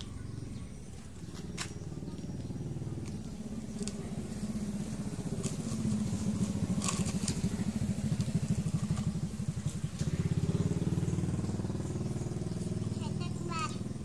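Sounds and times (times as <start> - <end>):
small engine puttering: 0.0 - 14.0.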